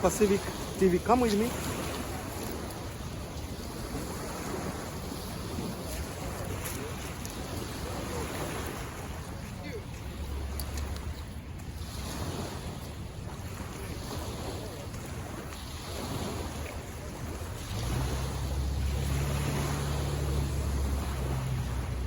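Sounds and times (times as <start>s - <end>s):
waves washing on shore: 0.0s - 22.0s
wind on microphone: 0.0s - 22.0s.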